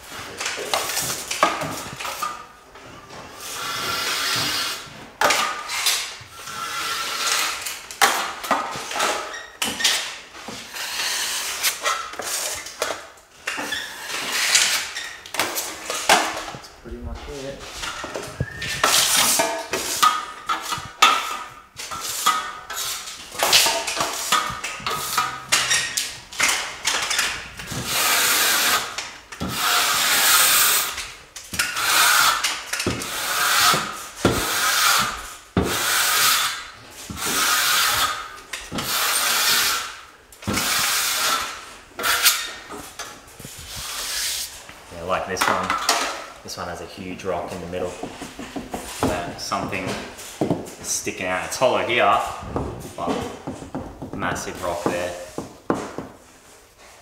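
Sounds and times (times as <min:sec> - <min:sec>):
trowel scraping joint compound: 0:00.2 - 0:16.7, 0:17.6 - 0:46.6, 0:47.2 - 0:57.0.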